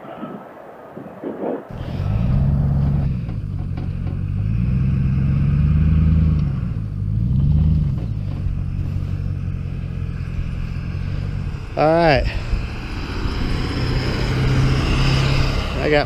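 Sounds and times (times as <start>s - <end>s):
snowmobile engine revving: 1.2s - 16.0s.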